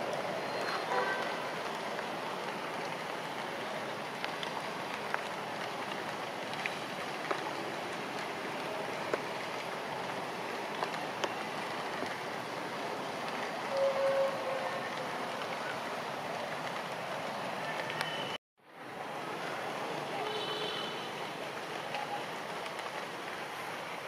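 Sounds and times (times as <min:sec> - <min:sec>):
rain on grass and leaves: 0:00.0 - 0:24.0.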